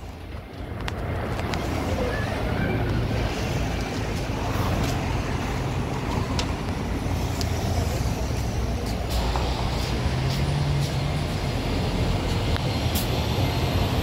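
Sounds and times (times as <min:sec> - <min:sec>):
bus engine idling: 0:00.0 - 0:14.0
faint traffic noise: 0:00.0 - 0:14.0.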